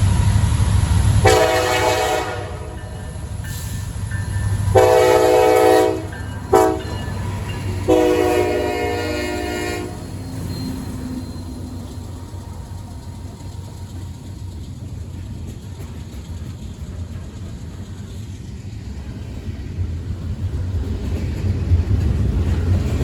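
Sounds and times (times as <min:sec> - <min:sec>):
passing train rumble: 0:00.0 - 0:23.0.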